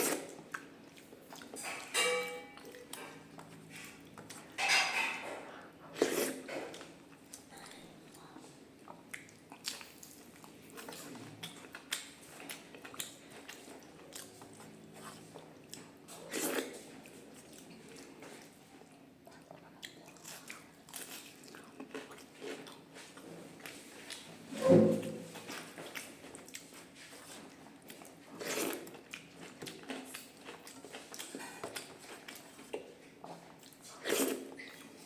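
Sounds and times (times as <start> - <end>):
person chewing food: 5.4 - 24.4, 25.4 - 35.0.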